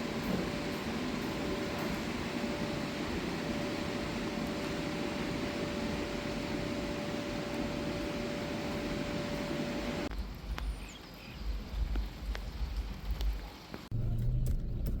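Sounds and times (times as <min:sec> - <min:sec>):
constant whine: 0:00.0 - 0:15.0
mechanical hum with hiss: 0:00.0 - 0:15.0.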